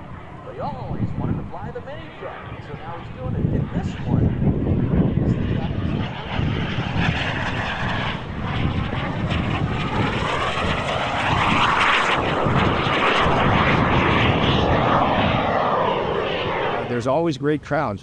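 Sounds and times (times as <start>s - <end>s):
airplane flying past: 0.0s - 17.3s.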